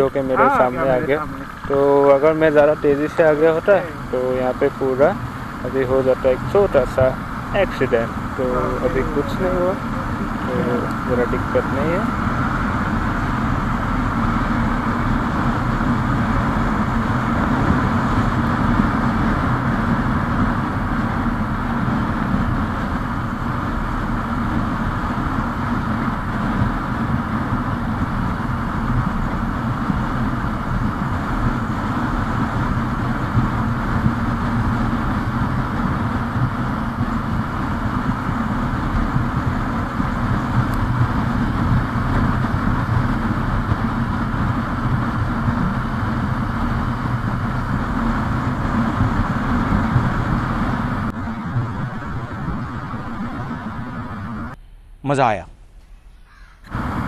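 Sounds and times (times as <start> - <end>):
motorcycle engine running: 0.0 - 54.6
wind noise on microphone: 0.0 - 54.6, 55.5 - 57.0.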